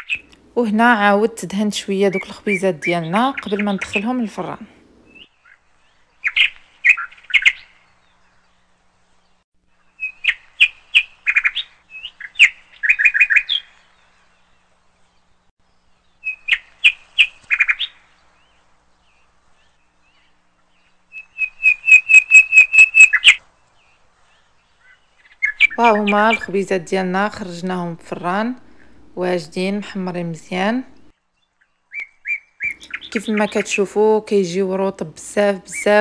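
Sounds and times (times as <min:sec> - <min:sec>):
bird chirping: 0:00.0 - 0:00.4, 0:01.8 - 0:34.8.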